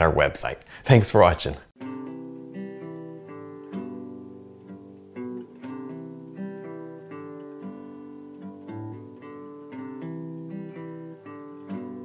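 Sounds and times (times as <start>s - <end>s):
acoustic guitar playing: 1.8s - 12.0s.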